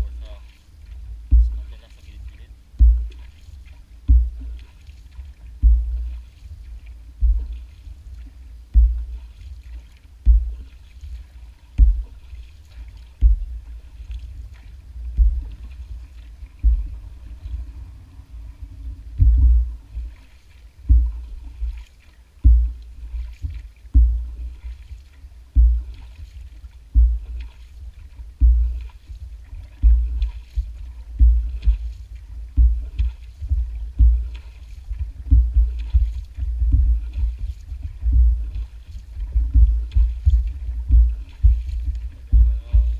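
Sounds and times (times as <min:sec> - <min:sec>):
paddle knocking on boat: 0:00.0 - 0:17.7, 0:19.1 - 0:42.9
paddle splashing in water: 0:00.0 - 0:42.9.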